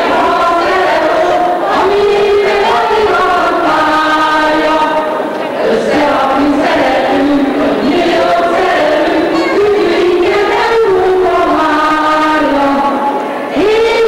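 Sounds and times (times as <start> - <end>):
group singing in unison: 0.0 - 14.0.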